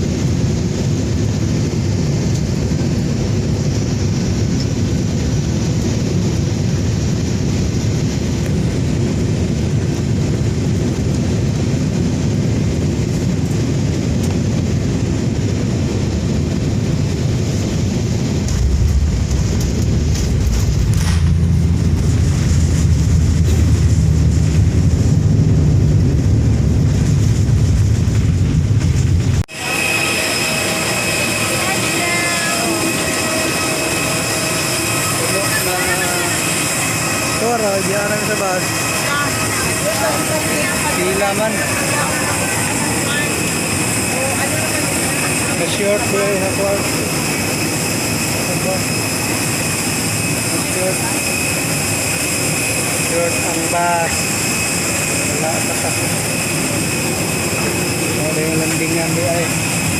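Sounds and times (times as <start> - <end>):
airliner engines rumbling: 0.0 - 59.9
rushing air: 0.0 - 59.9.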